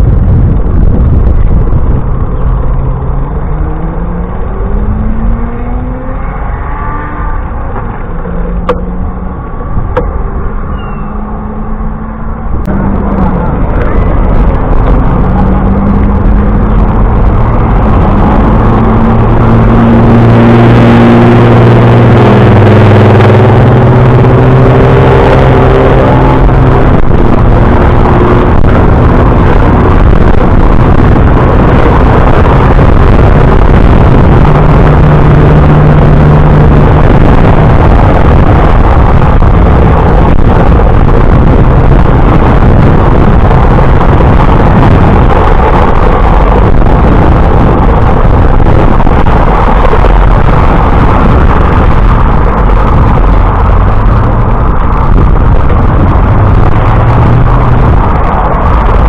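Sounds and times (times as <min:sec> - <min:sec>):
low hum: 0:00.0 - 0:59.0
wind buffeting microphone: 0:00.0 - 0:59.0.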